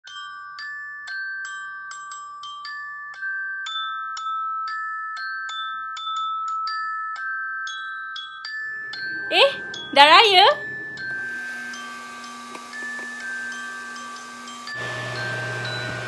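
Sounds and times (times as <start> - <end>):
bell-like mallet melody: 0.0 - 12.1, 12.8 - 16.0.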